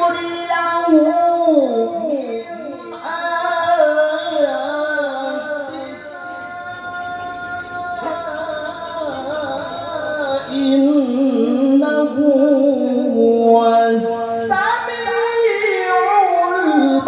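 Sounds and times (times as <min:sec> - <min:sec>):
person chanting through loudspeaker: 0:00.0 - 0:17.0.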